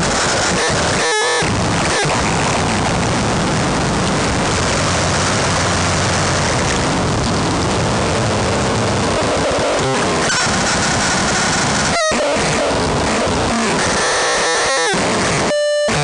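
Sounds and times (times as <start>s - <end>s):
harsh distorted noise music: 0.0s - 16.0s.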